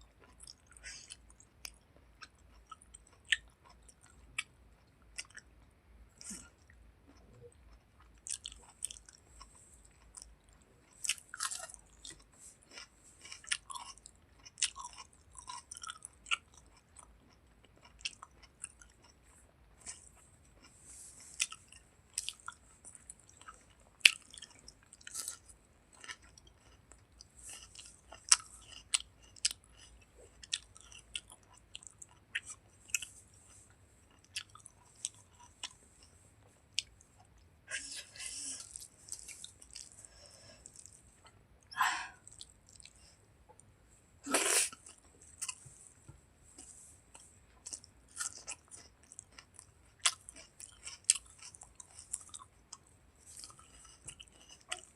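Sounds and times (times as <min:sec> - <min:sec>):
person chewing with mouth smacks: 0:00.1 - 0:05.6, 0:06.2 - 0:43.7, 0:44.3 - 0:54.9.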